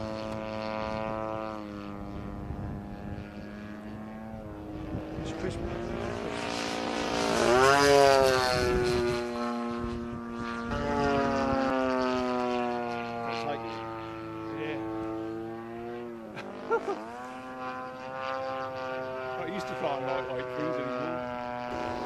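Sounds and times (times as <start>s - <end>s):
model plane engine and propeller: 0.0s - 22.0s.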